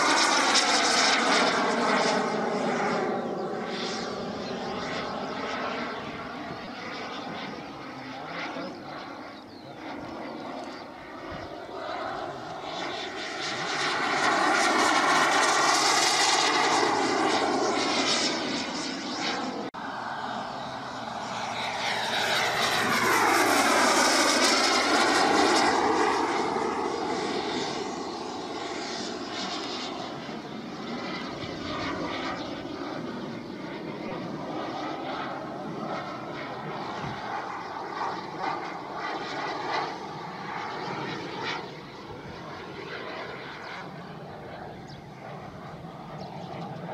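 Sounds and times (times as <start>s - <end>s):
model jet engine whine: 0.0s - 46.9s.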